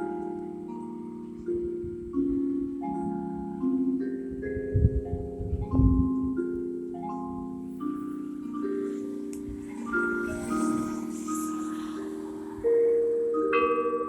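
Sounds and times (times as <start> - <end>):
church bells playing a tune: 0.0 - 14.0.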